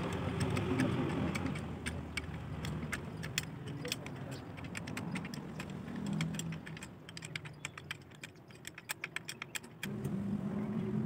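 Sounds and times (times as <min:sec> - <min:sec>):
screwdriver clicking on metal: 0:00.0 - 0:09.9.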